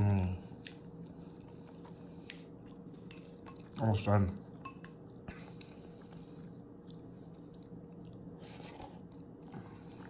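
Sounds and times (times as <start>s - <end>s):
chewing noodles: 0.4s - 10.0s.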